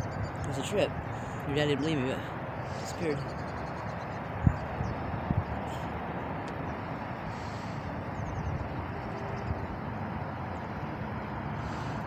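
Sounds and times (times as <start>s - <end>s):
low rumbling noise with hiss: 0.0s - 12.0s.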